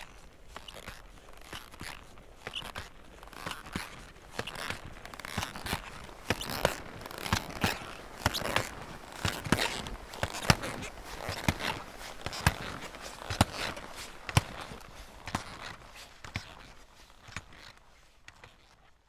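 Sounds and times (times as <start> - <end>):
footsteps crunching in snow: 0.0 - 18.8.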